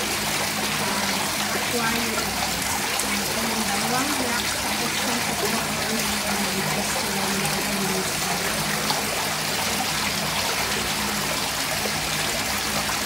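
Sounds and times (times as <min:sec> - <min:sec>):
water trickling in aquarium: 0:00.0 - 0:13.0.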